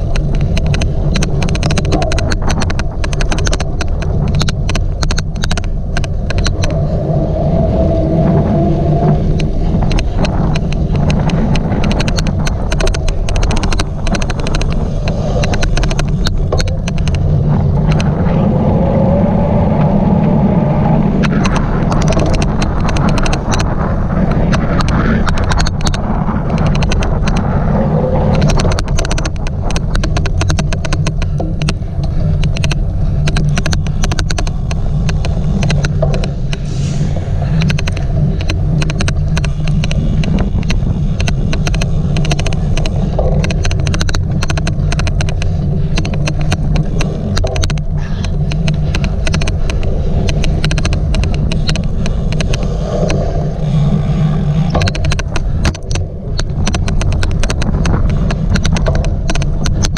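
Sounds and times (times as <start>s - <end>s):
sharp bike clicks: 0.0s - 7.1s, 8.9s - 18.4s, 21.1s - 59.9s
wind and tyres rumbling: 0.0s - 59.9s.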